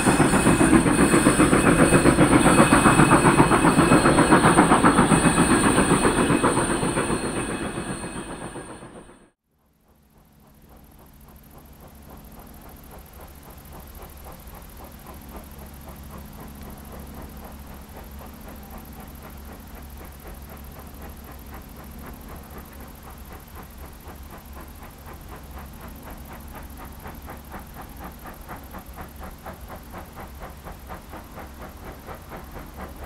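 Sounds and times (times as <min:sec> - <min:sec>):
steam locomotive exhaust beats: 0:00.0 - 0:09.3, 0:09.9 - 0:33.0.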